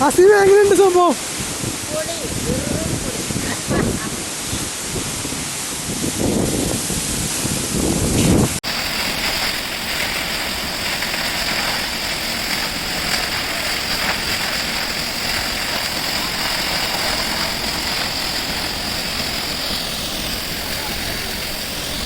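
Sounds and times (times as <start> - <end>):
waterfall rushing: 0.0 - 22.0
wind buffeting microphone: 0.0 - 22.0.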